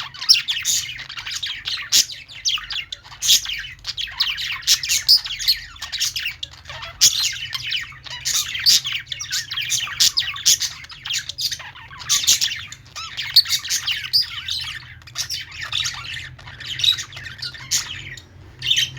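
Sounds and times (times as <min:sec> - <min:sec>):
budgerigars chattering: 0:00.0 - 0:18.9.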